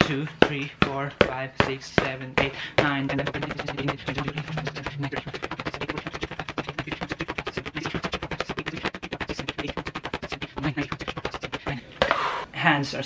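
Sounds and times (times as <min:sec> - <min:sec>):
rapid slapping on paper: 0:00.4 - 0:12.1.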